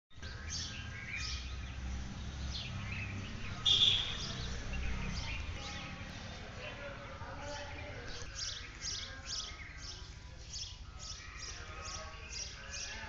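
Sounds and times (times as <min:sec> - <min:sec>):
birds chirping: 0:00.1 - 0:13.0.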